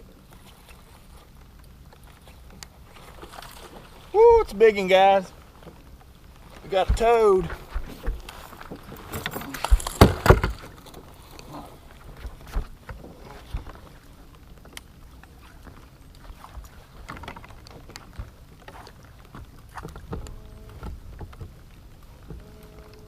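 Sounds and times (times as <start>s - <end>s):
knocks and handling noise on boat: 0.0s - 23.0s.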